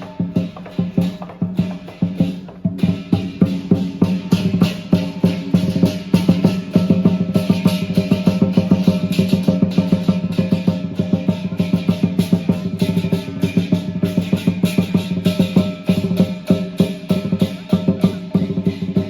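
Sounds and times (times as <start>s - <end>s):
cymbals ringing: 0.0s - 19.0s
lion dance drum: 0.0s - 19.0s.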